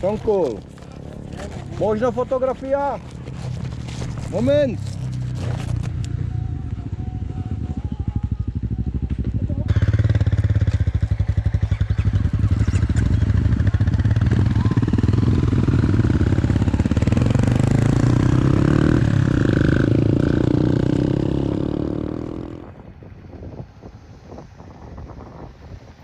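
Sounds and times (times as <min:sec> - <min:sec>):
motorcycle engine running: 0:00.0 - 0:22.7.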